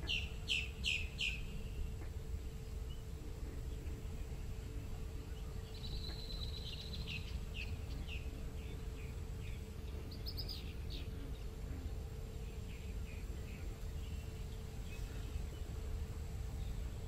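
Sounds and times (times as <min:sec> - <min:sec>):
bird chirping: 0:00.0 - 0:04.5, 0:05.2 - 0:17.0
low background rumble: 0:00.0 - 0:17.0.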